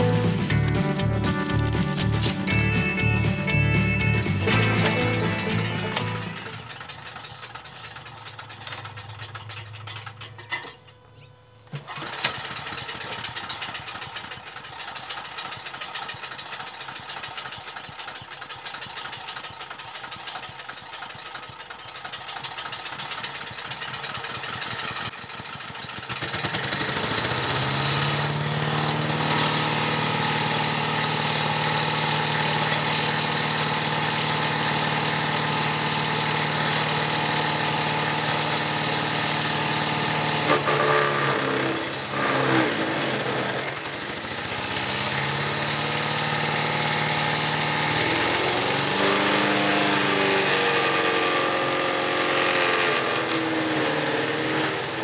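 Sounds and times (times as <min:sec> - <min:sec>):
small engine running: 0:00.0 - 0:10.7, 0:11.5 - 0:55.0.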